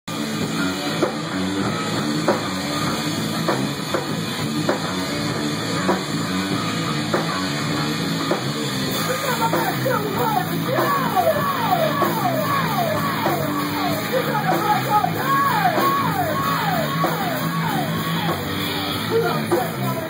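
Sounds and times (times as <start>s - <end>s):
rock music with drum kit: 0.1s - 20.0s.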